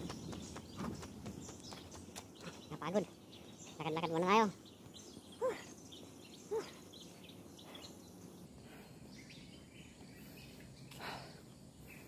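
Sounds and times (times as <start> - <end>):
birds calling: 0.0 - 12.0
faint bird chirps: 0.0 - 12.0.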